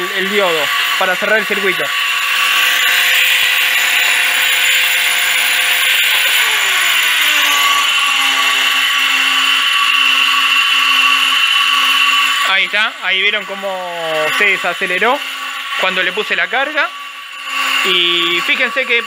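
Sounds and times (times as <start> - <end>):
small motor whining: 0.0 - 19.0.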